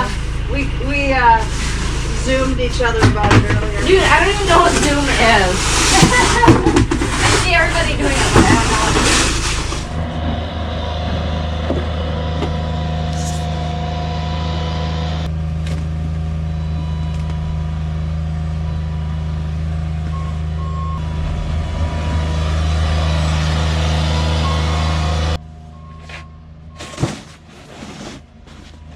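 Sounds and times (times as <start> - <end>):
vehicle engine running: 0.0 - 28.9.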